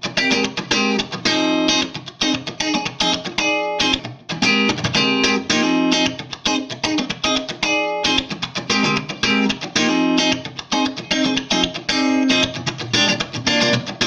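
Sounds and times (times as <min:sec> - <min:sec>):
electric guitar notes: 0:00.0 - 0:14.0.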